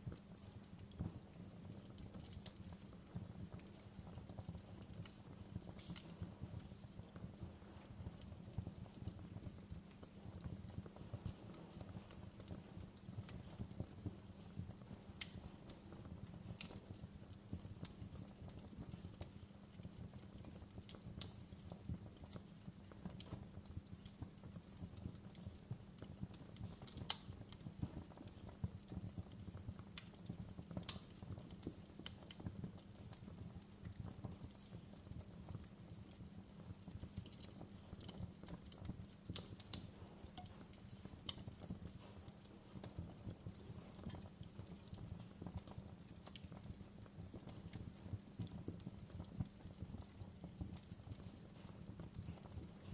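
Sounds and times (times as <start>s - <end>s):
fire crackling: 0.0s - 52.9s.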